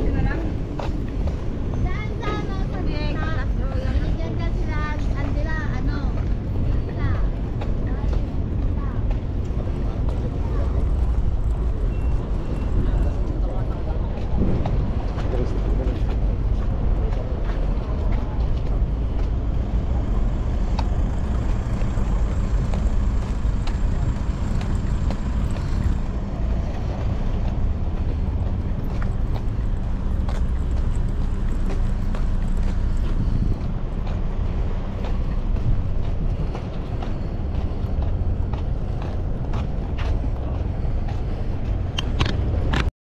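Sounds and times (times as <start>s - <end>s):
engine rumbling: 0.0s - 42.9s.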